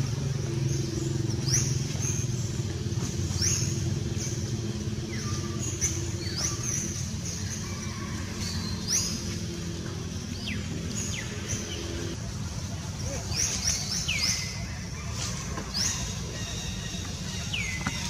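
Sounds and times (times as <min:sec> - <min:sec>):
motor engine running: 0:00.0 - 0:18.0.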